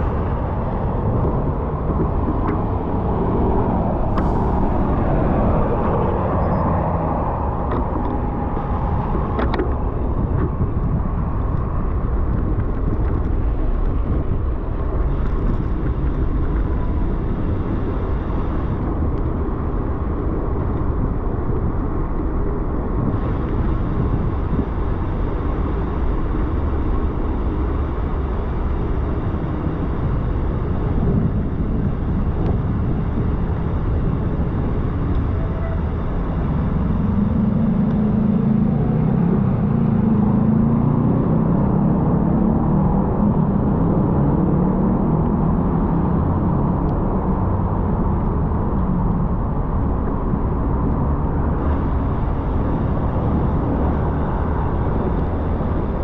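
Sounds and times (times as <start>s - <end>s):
road noise on wet streets: 0.0s - 56.0s
rushing wind: 0.0s - 56.0s.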